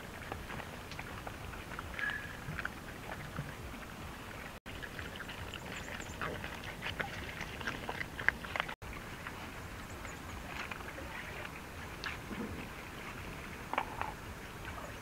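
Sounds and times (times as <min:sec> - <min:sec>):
dogs chewing and crunching food: 0:00.0 - 0:15.0.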